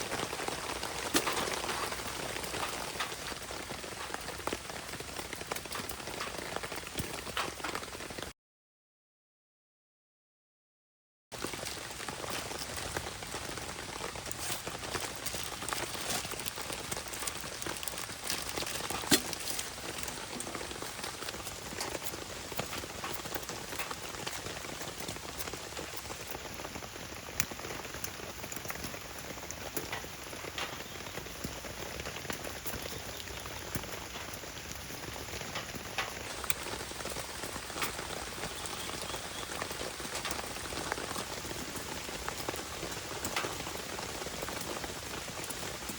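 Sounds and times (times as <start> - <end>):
raindrop ticks: 0.0 - 8.2, 11.4 - 45.9
steady rain falling: 0.0 - 8.3, 11.4 - 45.9.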